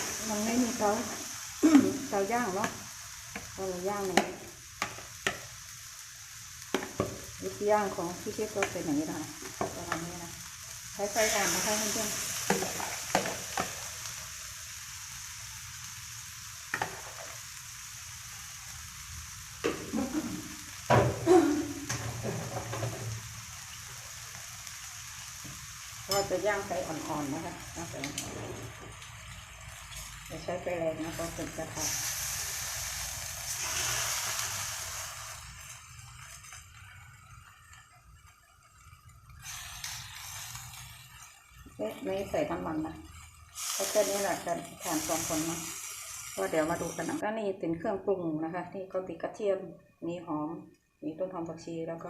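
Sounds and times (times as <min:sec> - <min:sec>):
pork sizzling in a pan: 0:00.0 - 0:47.2.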